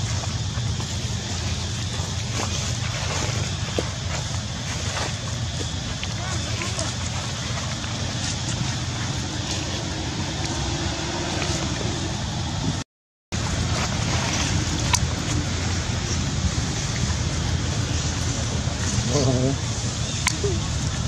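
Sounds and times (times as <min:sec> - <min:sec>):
low outdoor background rumble: 0:00.0 - 0:12.8, 0:13.4 - 0:21.0.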